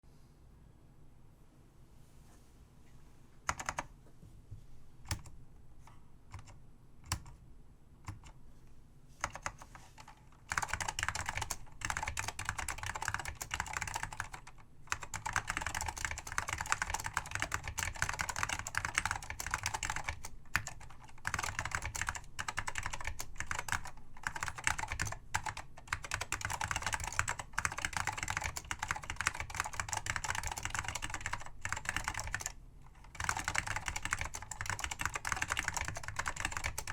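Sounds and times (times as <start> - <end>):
keyboard typing: 3.5 - 3.9, 5.0 - 7.4, 8.0 - 8.4, 9.2 - 36.9.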